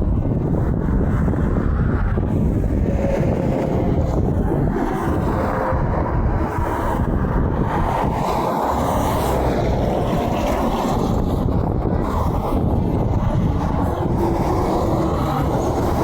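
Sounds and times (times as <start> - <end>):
road traffic noise: 0.0 - 16.0
wind rumble on microphone: 0.0 - 16.0.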